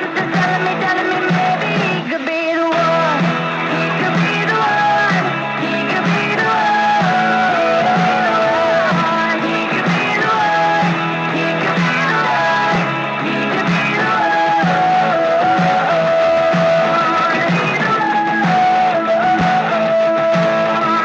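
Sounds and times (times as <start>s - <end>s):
music with steady beat: 0.0s - 21.0s.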